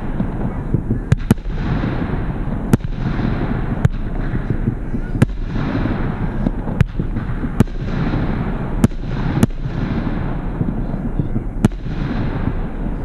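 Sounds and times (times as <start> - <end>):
firework shells bursting: 0.0 - 13.0
steady noisy background: 0.0 - 13.0.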